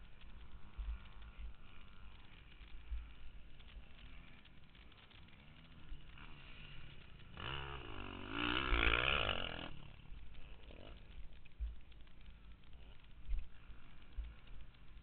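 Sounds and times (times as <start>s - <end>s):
dirt bike engine revving: 0.1s - 15.0s.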